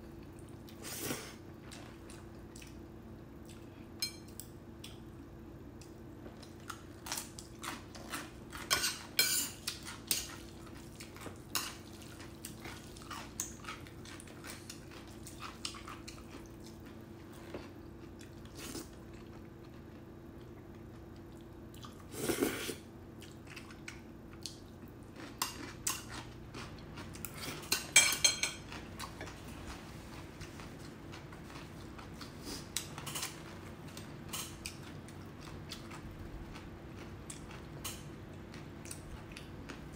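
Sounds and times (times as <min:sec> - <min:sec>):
faint steady hum: 0:00.0 - 0:39.9
slurping and chewing: 0:06.3 - 0:28.0, 0:28.6 - 0:39.9.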